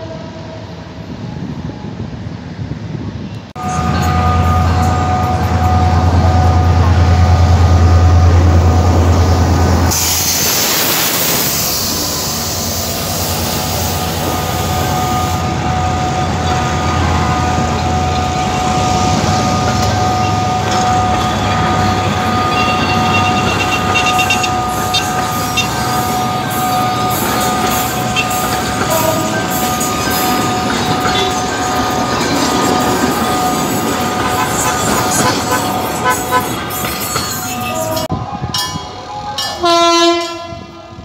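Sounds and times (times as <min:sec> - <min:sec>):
train coaches rumbling past: 0:00.0 - 0:41.0
train engine drone: 0:00.0 - 0:41.0.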